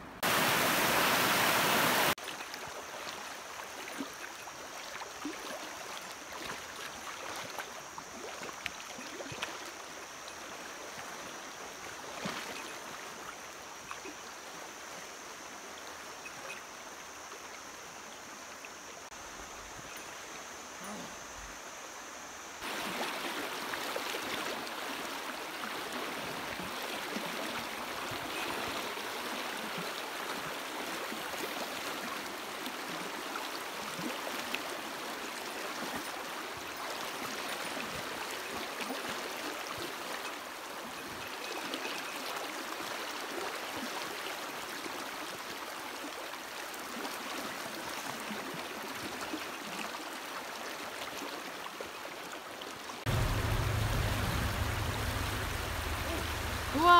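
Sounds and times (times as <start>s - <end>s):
stream rushing over rocks: 0.0s - 56.9s.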